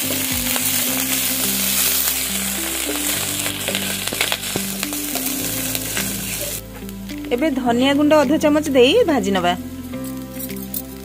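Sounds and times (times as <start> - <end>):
background music: 0.0 - 11.0
spices sizzling in hot oil: 0.0 - 11.0.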